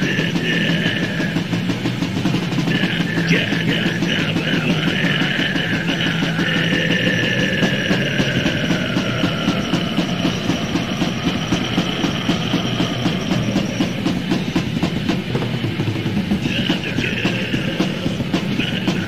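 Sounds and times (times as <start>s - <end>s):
distorted guitars: 0.0s - 19.0s
fast drumming: 0.0s - 19.0s
high sustained tone: 3.3s - 19.0s.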